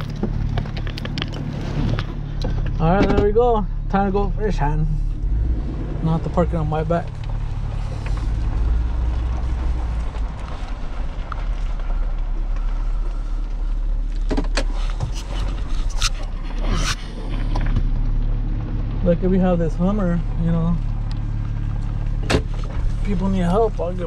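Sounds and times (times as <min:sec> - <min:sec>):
engine and road hum from inside: 0:00.0 - 0:24.0.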